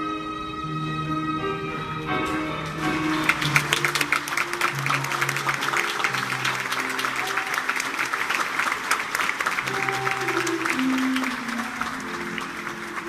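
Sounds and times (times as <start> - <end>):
piano: 0.0 - 13.0
audience applause: 2.2 - 13.0.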